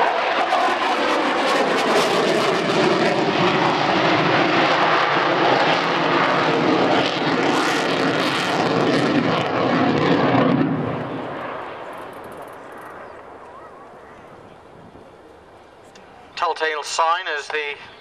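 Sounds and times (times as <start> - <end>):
jet engine rush: 0.0 - 18.0.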